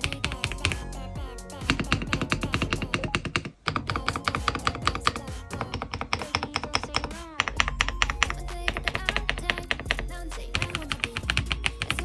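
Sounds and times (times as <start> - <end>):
mechanical keyboard typing: 0.0 - 0.9, 1.6 - 12.0
background music: 0.0 - 12.0.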